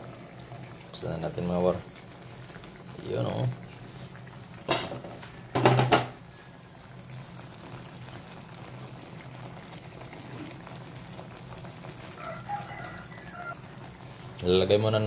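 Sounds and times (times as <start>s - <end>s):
meat simmering in a frying pan: 0.0s - 15.0s.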